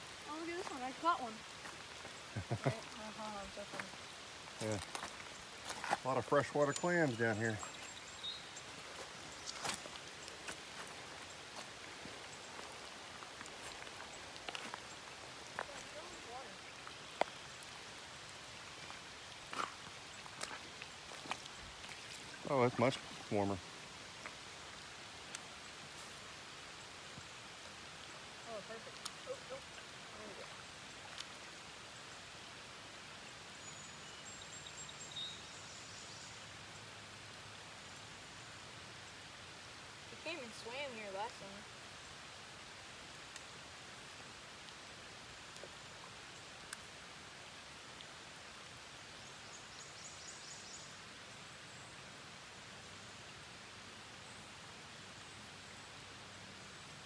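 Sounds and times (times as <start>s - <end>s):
rain on river surface: 0.0s - 57.0s.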